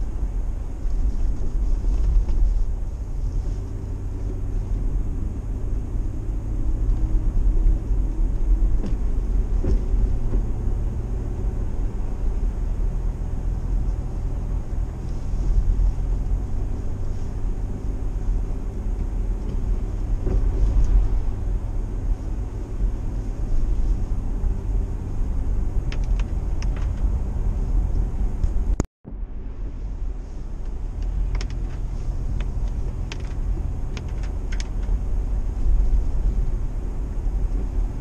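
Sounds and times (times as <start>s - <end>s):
car engine drone: 0.0s - 38.0s
road rumble: 0.0s - 38.0s.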